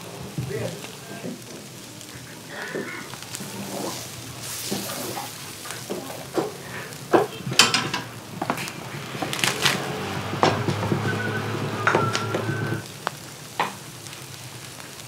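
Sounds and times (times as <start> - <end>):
grill baskets clinking: 0.0 - 14.0
seafood sizzling on grill: 0.0 - 15.0.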